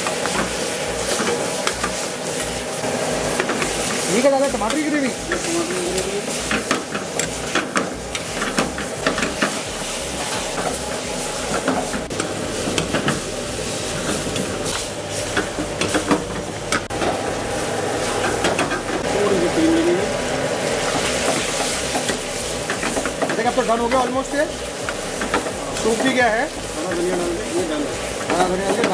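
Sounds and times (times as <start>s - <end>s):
gravy sizzling: 0.0s - 28.9s.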